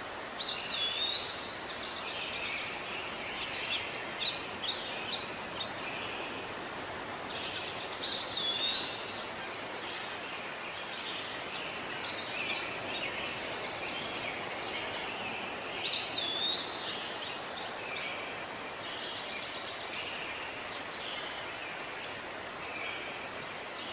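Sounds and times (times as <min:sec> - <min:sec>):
background hiss: 0:00.0 - 0:23.9.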